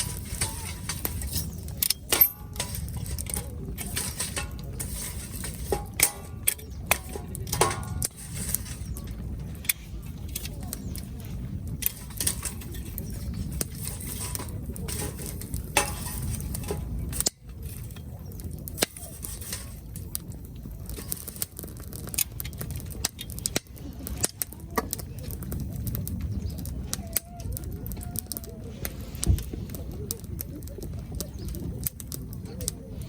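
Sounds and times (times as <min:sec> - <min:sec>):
low fire rumble: 0:00.0 - 0:33.0
wood fire crackling and popping: 0:00.0 - 0:33.0.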